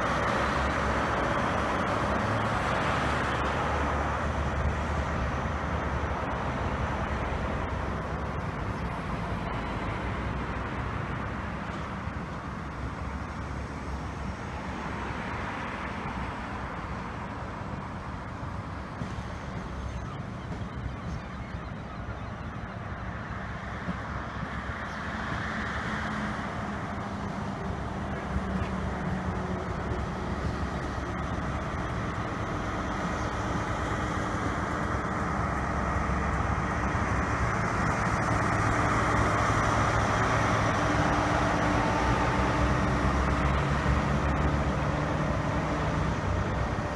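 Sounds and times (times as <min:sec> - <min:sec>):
train engine drone: 0:00.0 - 0:46.9.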